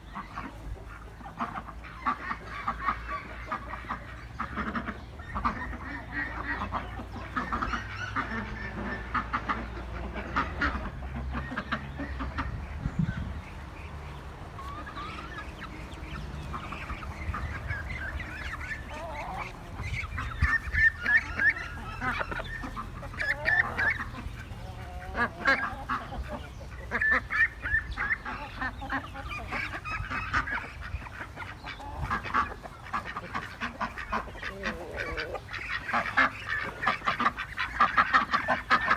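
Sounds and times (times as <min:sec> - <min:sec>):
ducks quacking: 0:00.0 - 0:38.9.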